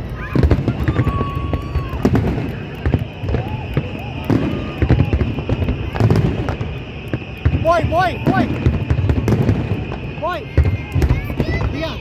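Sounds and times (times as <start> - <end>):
firework bangs and crackling: 0.0 - 12.0.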